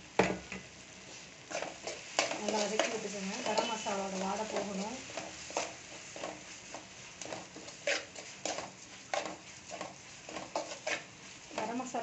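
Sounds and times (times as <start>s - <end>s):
oil sizzling: 0.0s - 12.0s
metal spatula scraping a pan: 1.4s - 12.0s.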